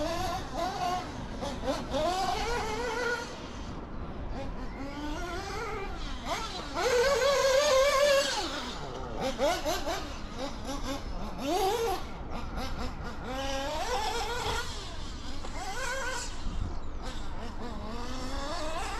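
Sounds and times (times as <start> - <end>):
nitro engine revving: 0.0 - 18.9.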